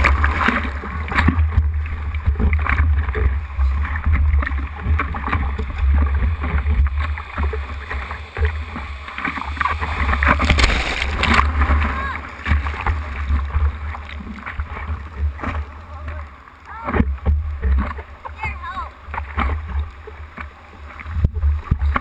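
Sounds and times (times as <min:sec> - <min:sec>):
low rumble of water: 0:00.0 - 0:22.0
water sloshing and splashing: 0:00.0 - 0:22.0.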